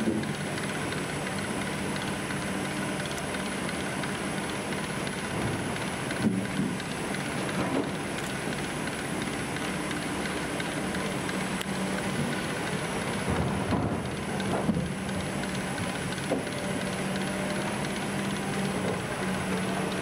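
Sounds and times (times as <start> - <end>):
timber handler machine running: 0.0 - 20.0.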